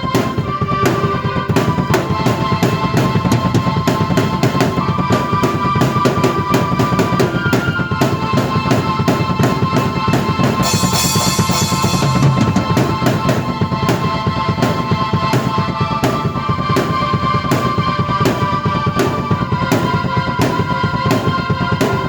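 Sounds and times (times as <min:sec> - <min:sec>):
cymbals ringing: 0:00.0 - 0:22.0
drum beat: 0:00.0 - 0:22.0
sustained keyboard notes: 0:00.0 - 0:22.0.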